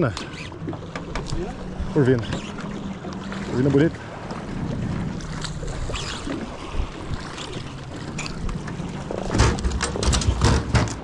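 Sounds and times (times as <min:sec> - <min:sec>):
choppy water against boat: 0:00.0 - 0:11.0.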